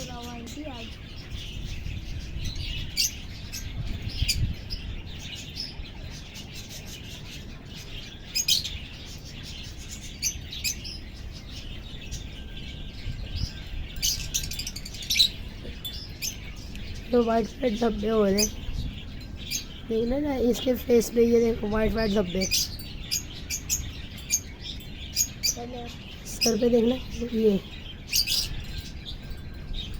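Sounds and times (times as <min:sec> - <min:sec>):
parakeets chirping: 0:00.0 - 0:29.9.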